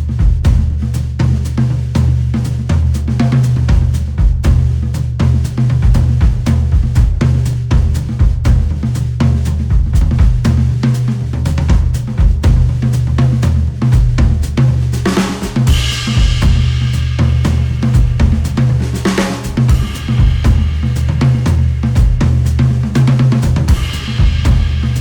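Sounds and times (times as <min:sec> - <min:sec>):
drum beat with heavy bass: 0:00.0 - 0:25.0.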